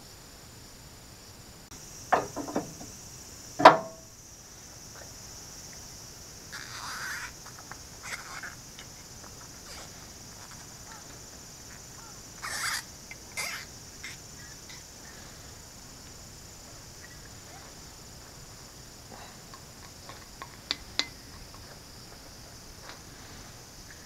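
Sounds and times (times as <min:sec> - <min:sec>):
steady high-pitched hiss: 0:00.0 - 0:24.0.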